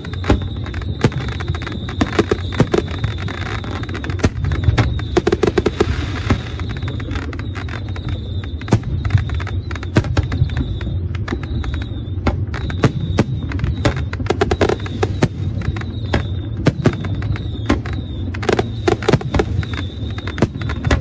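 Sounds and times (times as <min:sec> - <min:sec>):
firework bangs and crackles: 0:00.0 - 0:21.0.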